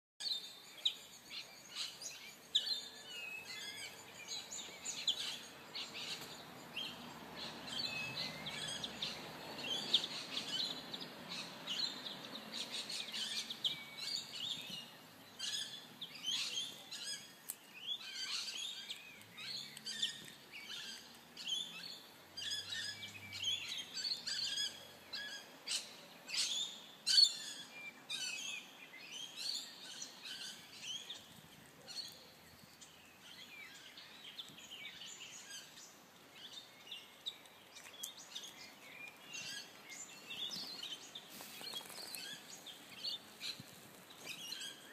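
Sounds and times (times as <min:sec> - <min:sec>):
small birds chirping: 0:00.2 - 0:44.9.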